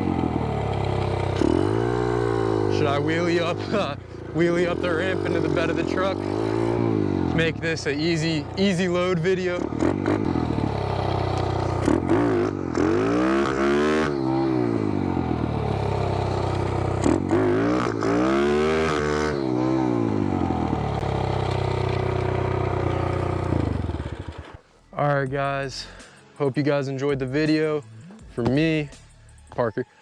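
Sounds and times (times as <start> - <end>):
pit bike engine revving: 0.0 - 24.6.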